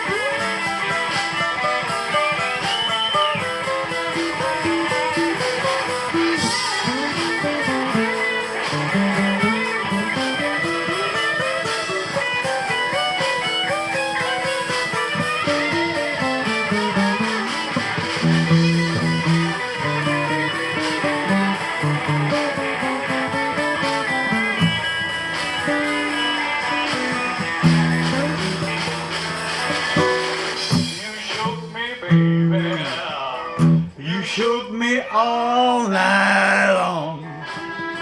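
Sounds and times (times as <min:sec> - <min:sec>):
electric guitar solo: 0:00.0 - 0:31.3, 0:32.1 - 0:38.0
blues band playing: 0:00.0 - 0:38.0.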